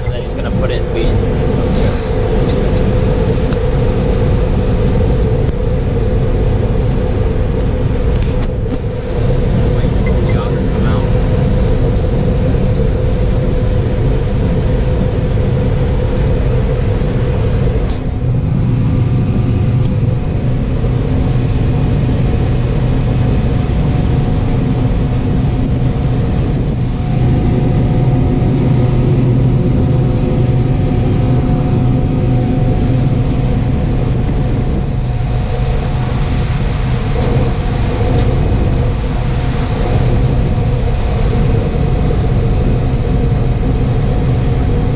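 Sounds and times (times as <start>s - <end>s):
combine harvester drone: 0.0s - 44.9s.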